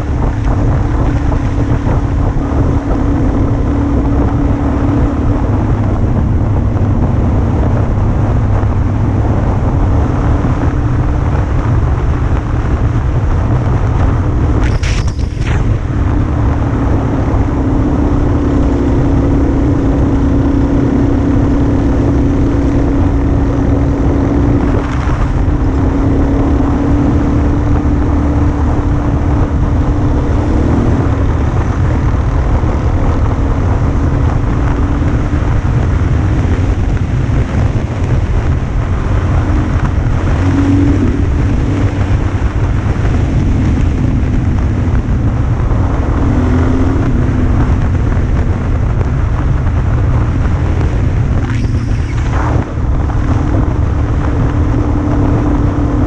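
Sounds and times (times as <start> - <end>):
motorcycle engine cruising: 0.0 - 56.0
wind rumble on microphone: 0.0 - 56.0.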